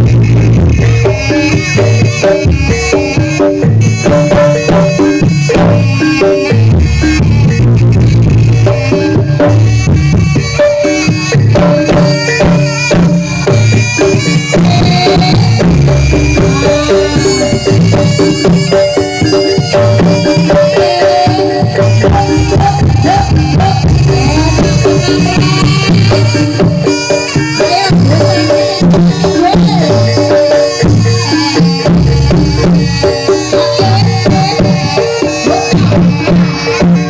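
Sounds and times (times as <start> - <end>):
bending melody line: 0.0 - 37.0
hand drum strokes: 0.0 - 37.0.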